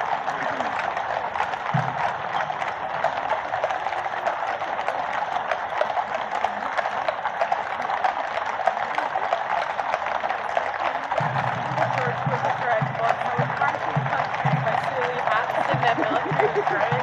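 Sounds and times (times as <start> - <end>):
horse hooves clip-clopping on road: 0.0 - 17.0.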